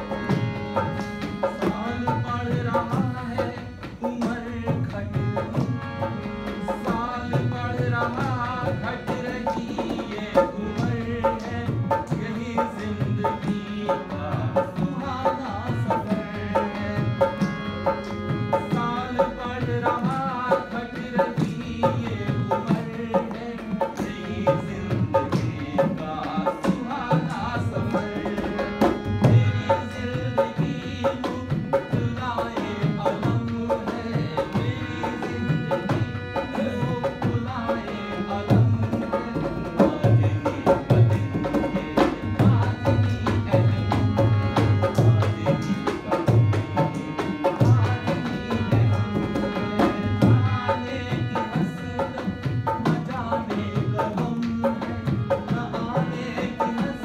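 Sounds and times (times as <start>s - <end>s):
harmonium chords: 0.0s - 57.0s.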